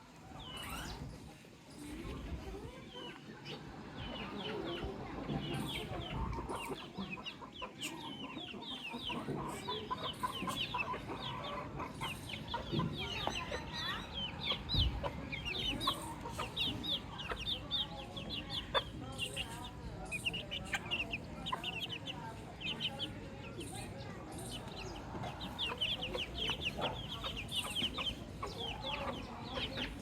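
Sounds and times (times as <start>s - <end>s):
baby chicks peeping: 0.1s - 30.0s.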